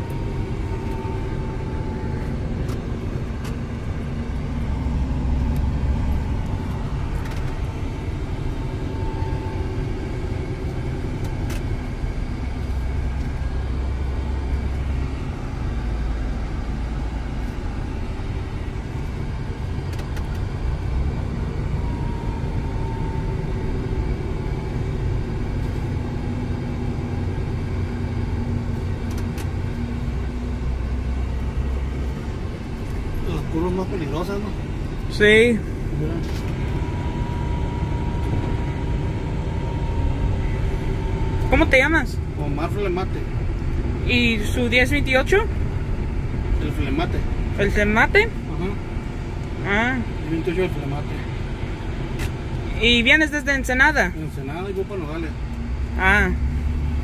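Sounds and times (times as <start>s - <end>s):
truck engine drone: 0.0s - 57.0s
tyre and road noise: 0.0s - 57.0s.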